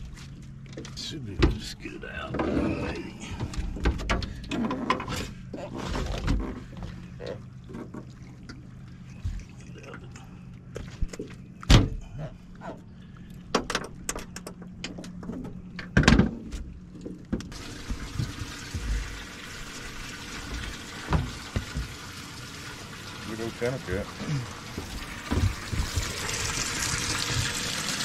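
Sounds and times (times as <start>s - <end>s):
steady low hum: 0.0s - 27.8s.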